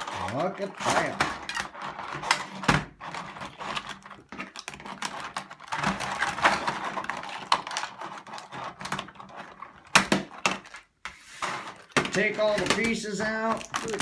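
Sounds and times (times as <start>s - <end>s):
toy packaging being unpacked: 0.0s - 14.0s.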